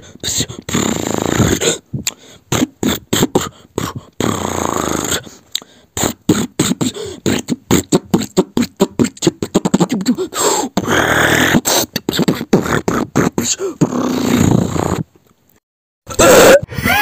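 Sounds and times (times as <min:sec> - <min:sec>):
beatboxing vocal drum hits: 0:00.0 - 0:15.1
held falling mouth sound: 0:00.6 - 0:15.1.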